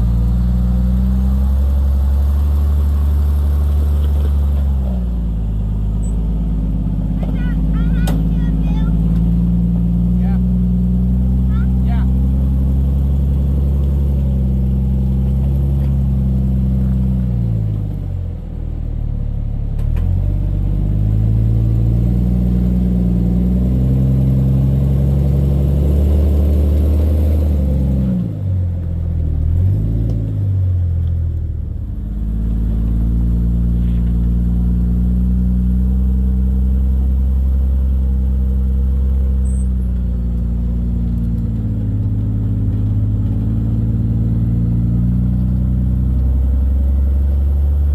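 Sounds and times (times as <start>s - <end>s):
engine revving under load: 0.0s - 18.2s, 19.8s - 47.9s.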